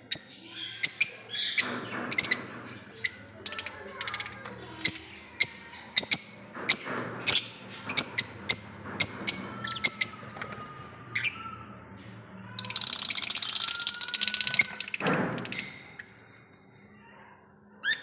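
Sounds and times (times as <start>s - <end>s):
birds chattering: 0.0s - 11.7s, 12.5s - 16.3s.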